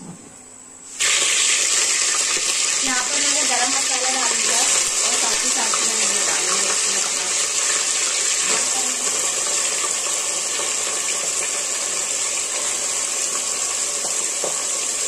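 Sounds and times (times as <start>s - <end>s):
gas stove burner hissing: 0.8s - 15.0s.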